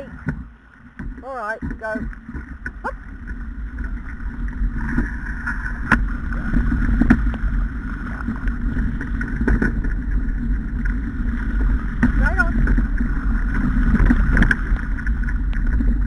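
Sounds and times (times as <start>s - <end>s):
rumbling rattling sled noise: 0.0s - 16.0s.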